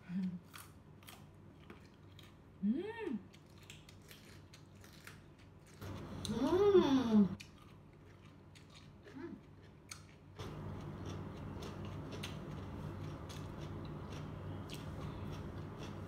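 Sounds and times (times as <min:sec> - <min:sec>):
steady low hum: 0:00.0 - 0:16.0
chewing crunchy vegetables: 0:00.4 - 0:02.6, 0:03.3 - 0:06.5, 0:07.4 - 0:16.0.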